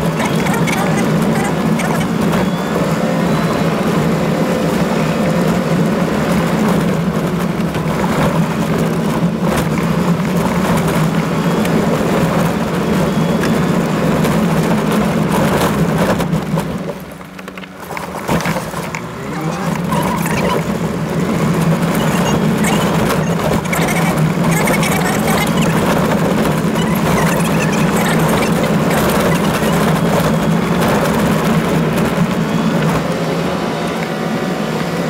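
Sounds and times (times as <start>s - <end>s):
engine drone: 0.0s - 35.0s.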